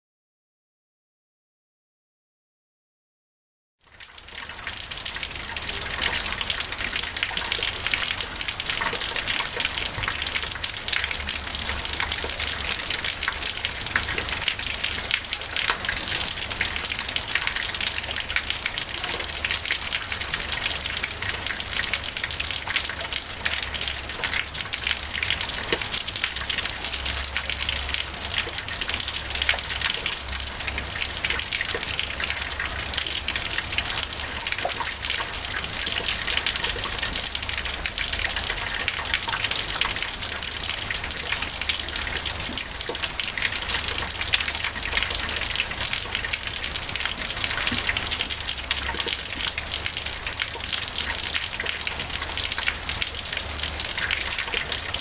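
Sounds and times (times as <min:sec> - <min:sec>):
water pouring and splashing: 0:04.0 - 0:55.0
water trickling down rock: 0:04.0 - 0:55.0.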